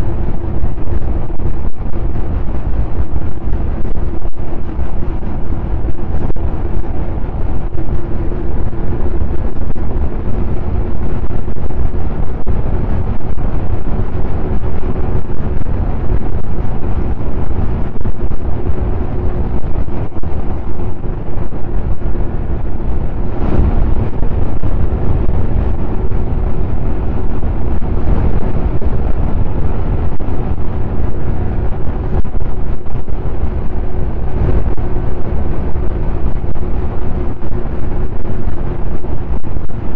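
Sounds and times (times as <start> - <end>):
snowmobile engine running: 0.0 - 39.9
wind rumble on microphone: 0.0 - 39.9.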